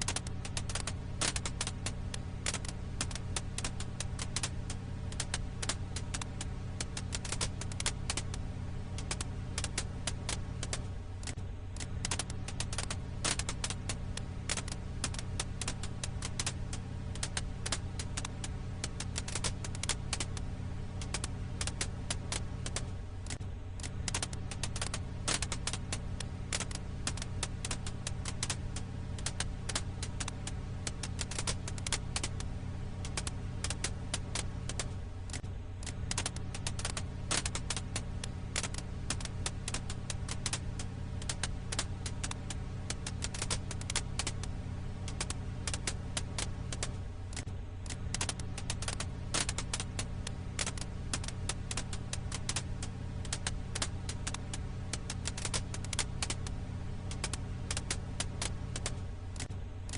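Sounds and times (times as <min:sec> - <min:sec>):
low hum: 0:00.0 - 0:59.9
wood fire crackling: 0:00.0 - 0:59.9.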